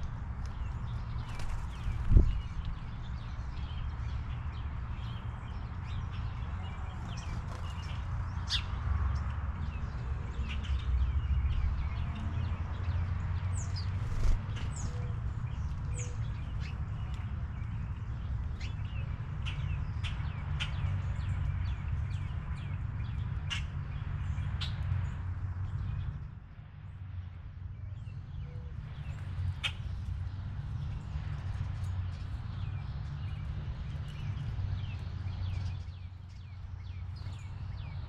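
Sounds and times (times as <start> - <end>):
birds chirping: 0.0 - 26.4, 27.1 - 38.0.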